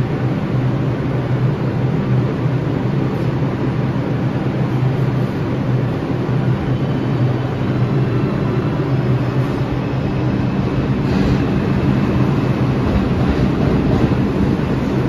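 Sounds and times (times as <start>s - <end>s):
subway train motor hum: 0.0s - 15.0s
wheels rumbling on rails: 0.0s - 15.0s.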